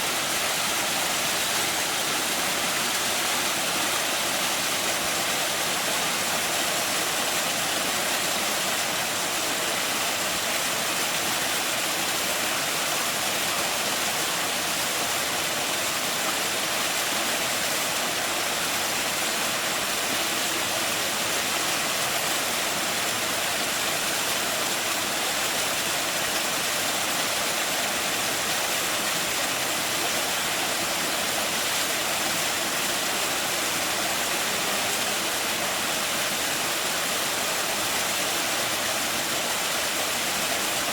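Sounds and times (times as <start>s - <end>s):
waterfall splashing into pool: 0.0s - 40.9s.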